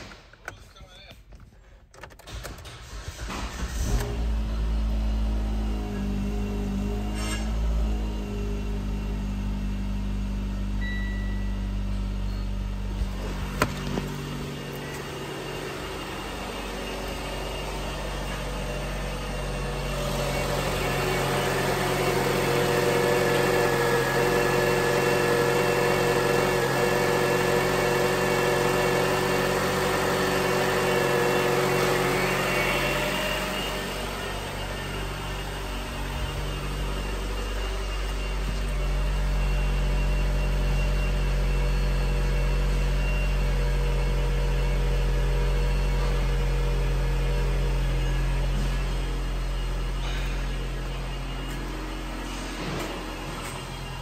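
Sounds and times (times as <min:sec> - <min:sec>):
engine whine: 0:02.1 - 0:54.0
car engine idling: 0:07.7 - 0:54.0.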